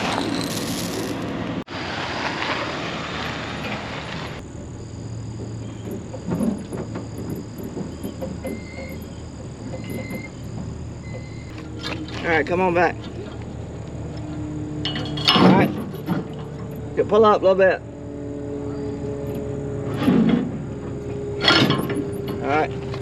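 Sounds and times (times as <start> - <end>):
farm vehicle engine rumbling: 0.0 - 23.0.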